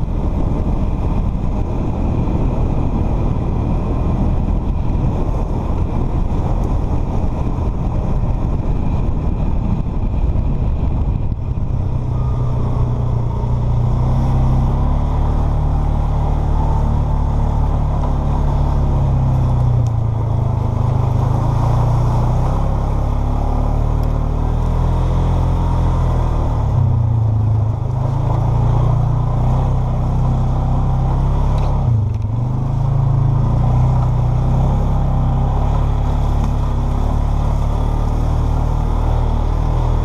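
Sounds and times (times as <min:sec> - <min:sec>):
quad bike engine running: 0:00.0 - 0:40.0.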